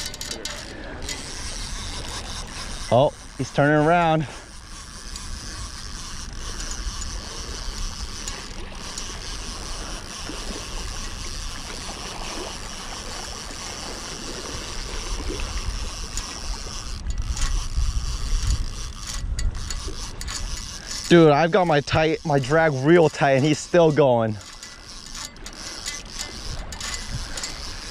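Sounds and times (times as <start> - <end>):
river water flowing: 0.0 - 27.9.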